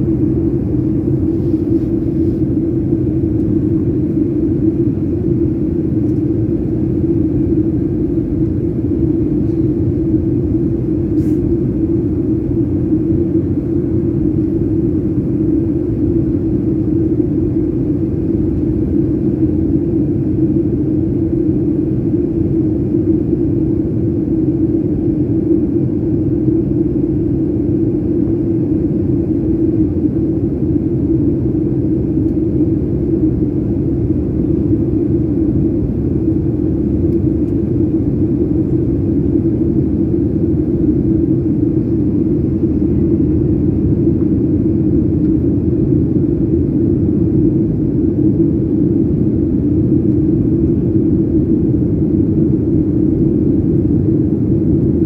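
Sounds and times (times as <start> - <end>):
jet engine cabin drone: 0.0 - 55.0.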